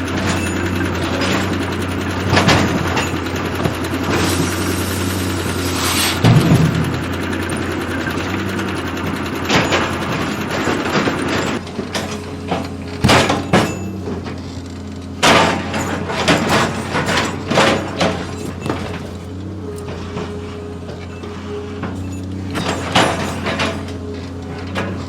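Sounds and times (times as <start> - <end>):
heavy machinery humming: 0.0 - 25.0
metallic clanks and knocks: 0.0 - 25.0.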